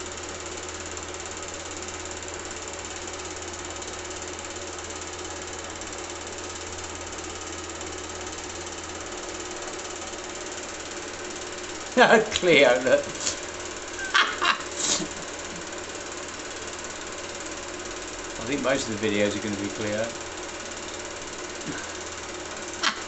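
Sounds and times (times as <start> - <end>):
film projector whirring: 0.0 - 23.0.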